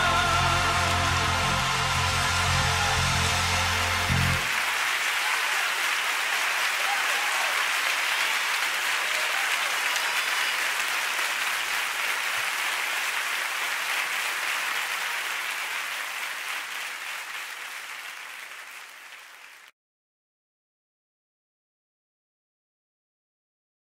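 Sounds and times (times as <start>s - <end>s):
audience applauding: 0.0s - 19.7s.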